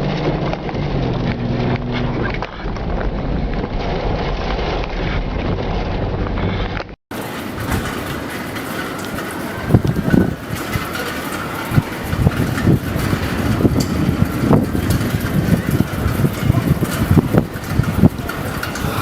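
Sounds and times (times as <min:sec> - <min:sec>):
storm wind rushing: 0:00.8 - 0:19.0.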